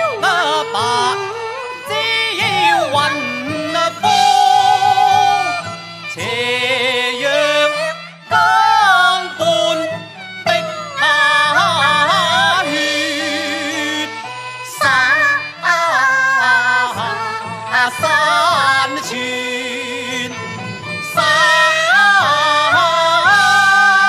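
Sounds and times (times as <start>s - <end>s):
male and female voices singing: 0.0s - 24.0s
traditional instrumental accompaniment: 0.0s - 24.0s.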